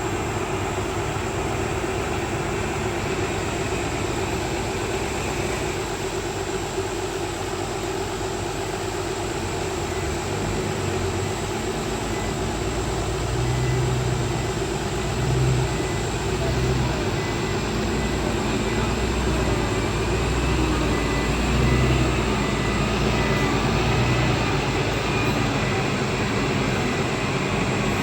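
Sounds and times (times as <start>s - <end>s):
deep engine hum: 0.0s - 28.0s
heavy diesel machinery running: 0.0s - 28.0s.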